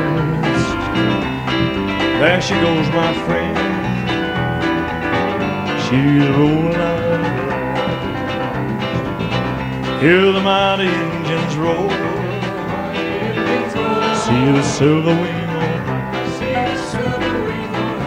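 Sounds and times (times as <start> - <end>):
man singing: 0.0 - 4.2, 5.1 - 8.2, 9.9 - 18.0
country band playing: 0.0 - 18.0.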